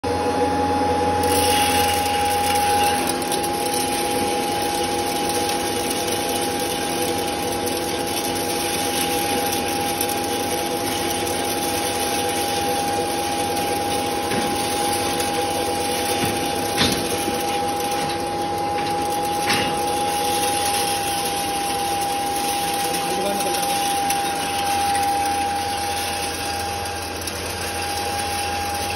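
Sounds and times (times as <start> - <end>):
grinder machine whining: 0.0 - 28.9.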